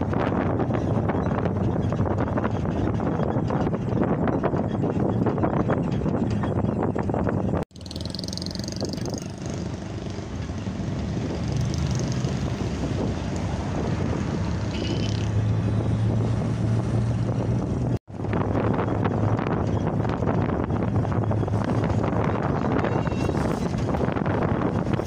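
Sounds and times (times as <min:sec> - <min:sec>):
low engine hum: 0:00.0 - 0:25.0
wind and road noise: 0:00.0 - 0:25.0.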